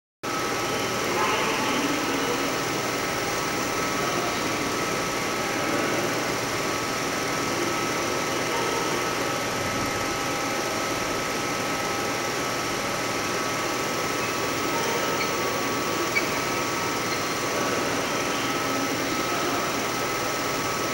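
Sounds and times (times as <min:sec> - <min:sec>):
film projector whirring: 0:00.3 - 0:20.9.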